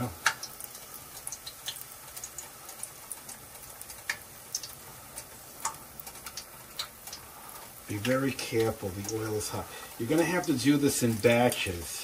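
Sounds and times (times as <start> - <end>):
oil crackling pops: 0.0 - 11.7
batter sizzling in oil: 0.0 - 12.0.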